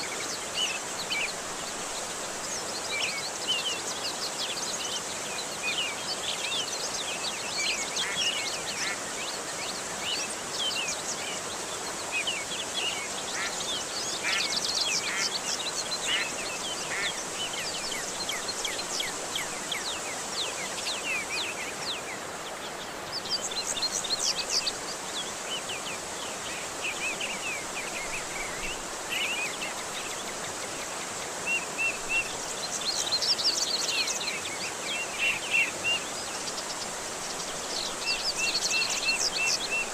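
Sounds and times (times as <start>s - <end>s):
running water rushing: 0.0s - 39.9s
small birds chirping and trilling: 0.0s - 39.9s.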